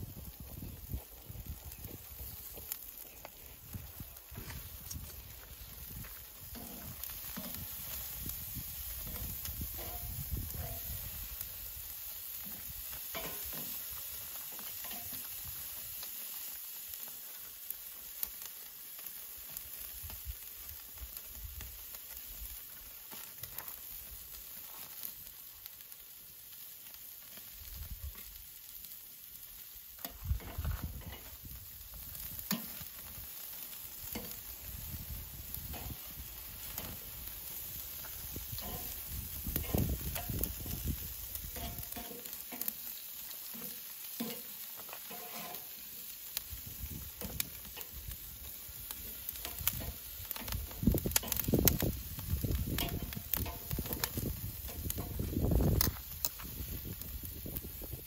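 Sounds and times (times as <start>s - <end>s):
food sizzling: 0.0s - 58.0s.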